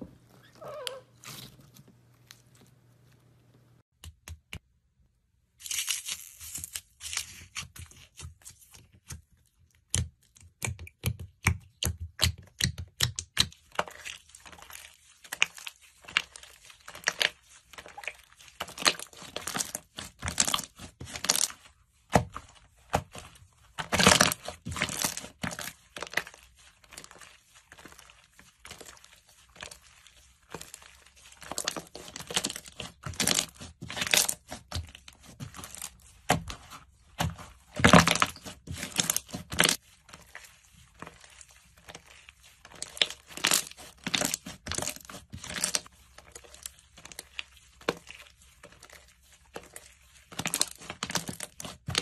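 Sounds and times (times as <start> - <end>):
slime crackling and popping: 9.9 - 52.0.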